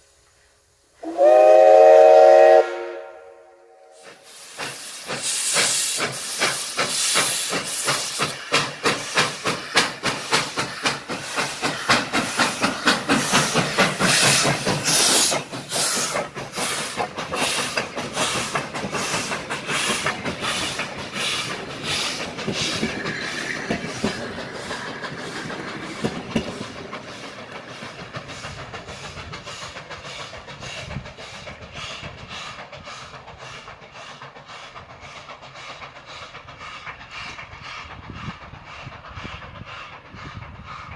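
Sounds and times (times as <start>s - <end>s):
steam hissing: 0.0s - 40.9s
steam locomotive exhaust chuffs: 0.0s - 40.9s.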